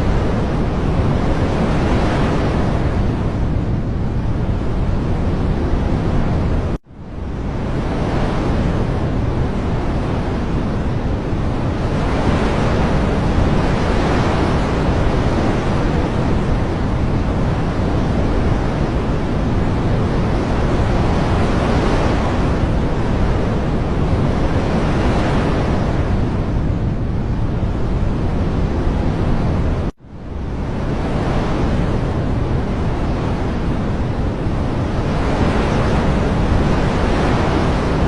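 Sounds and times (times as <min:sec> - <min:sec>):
rushing water: 0:00.0 - 0:29.9, 0:30.6 - 0:38.0.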